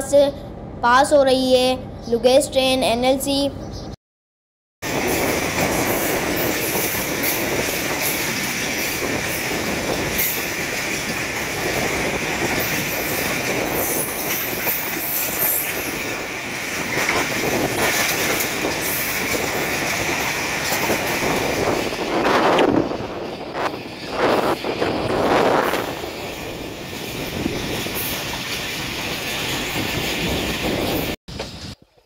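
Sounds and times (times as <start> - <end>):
train rumble and clatter: 4.8 - 32.0
rail joint clicks: 4.9 - 32.0.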